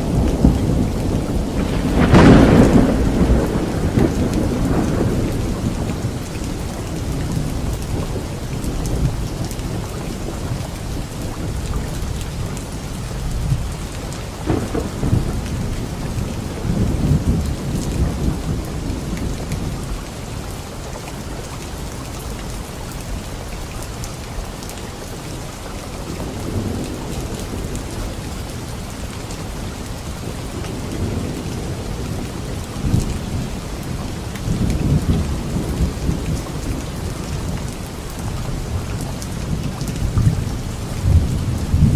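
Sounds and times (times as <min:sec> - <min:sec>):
low rolling thunder: 0:00.0 - 0:20.6, 0:26.0 - 0:41.9
steady rain: 0:00.0 - 0:41.9.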